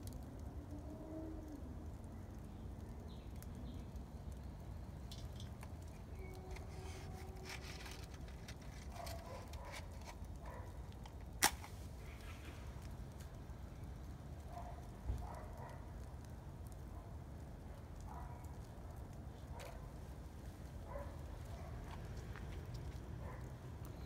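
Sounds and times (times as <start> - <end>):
small fire crackling: 0.0 - 24.0.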